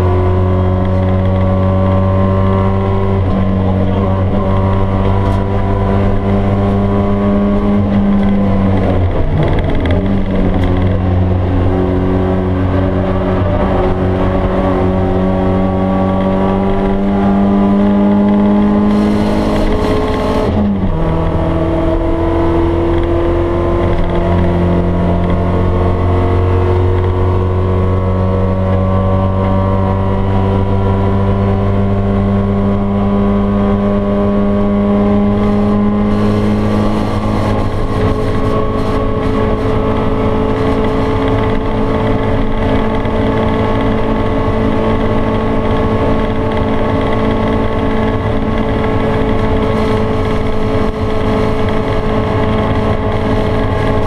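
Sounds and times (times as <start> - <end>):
car engine running under load: 0.0 - 54.0.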